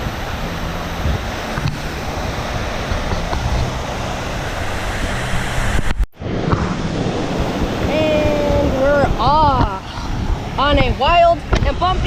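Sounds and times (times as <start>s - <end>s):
water rushing: 0.0s - 12.0s
wind noise on microphone: 0.0s - 12.0s.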